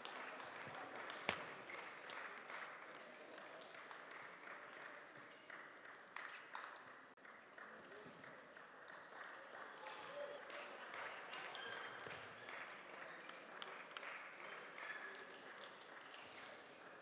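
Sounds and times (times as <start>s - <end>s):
light clapping: 0.0s - 16.7s.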